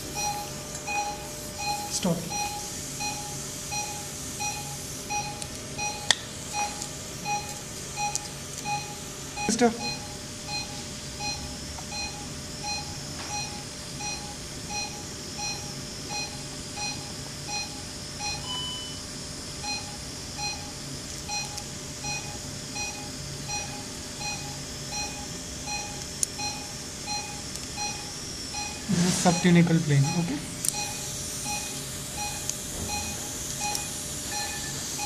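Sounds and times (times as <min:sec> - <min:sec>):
patient monitor beeping: 0:00.0 - 0:19.0, 0:19.6 - 0:35.0
low equipment hum: 0:00.0 - 0:35.0.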